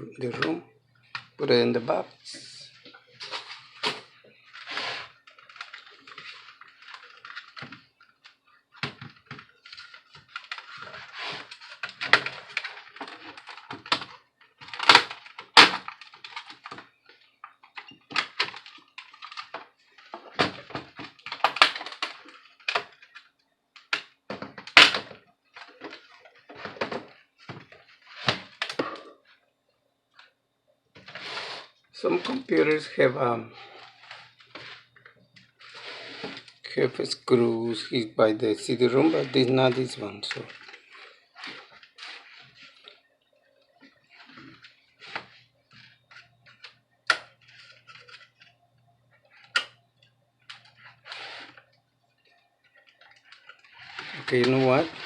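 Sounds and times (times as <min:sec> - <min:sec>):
plastic parts and tools clicking: 0:02.8 - 0:29.4, 0:33.7 - 0:55.0.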